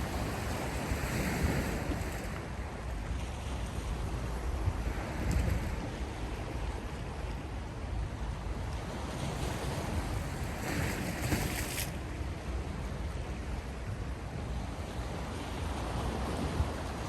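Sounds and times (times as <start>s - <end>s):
sea waves washing on shore: 0.0s - 17.0s.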